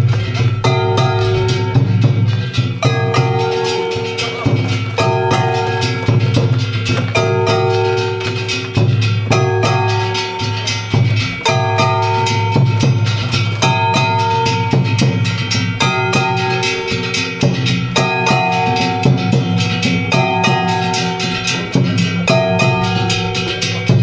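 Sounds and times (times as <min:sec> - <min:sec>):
drums beating: 0:00.0 - 0:24.0.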